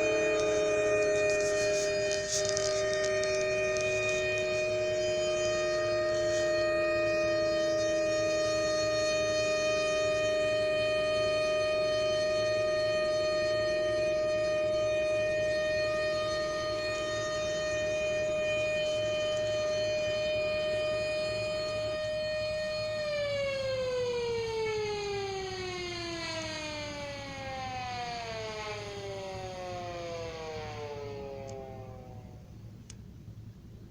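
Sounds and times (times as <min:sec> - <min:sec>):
warning siren wailing: 0:00.0 - 0:33.8
lower siren tone: 0:00.0 - 0:33.9.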